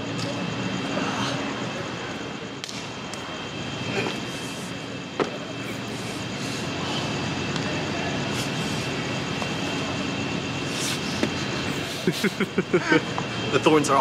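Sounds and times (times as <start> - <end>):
urban traffic rumble: 0.0 - 14.0.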